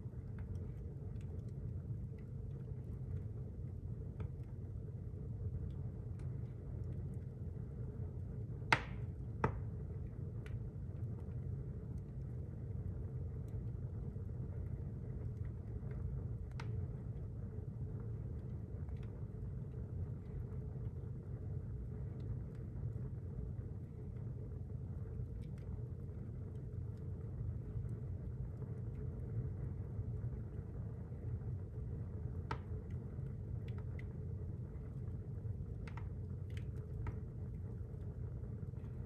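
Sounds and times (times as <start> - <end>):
fire crackles: 0.0 - 39.0
wood fire rumbling: 0.0 - 39.0.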